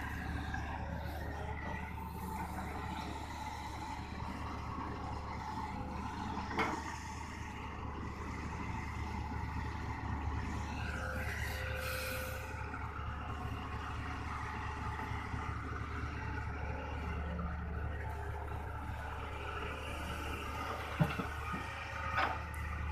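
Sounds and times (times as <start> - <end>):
excavator diesel engine running: 0.0 - 22.9.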